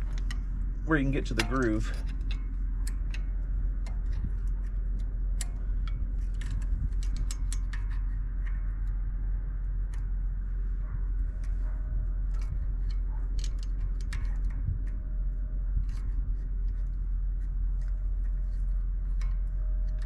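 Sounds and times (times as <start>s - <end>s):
small metal clicks and scraping: 0.0s - 20.0s
steady low hum: 0.0s - 20.0s.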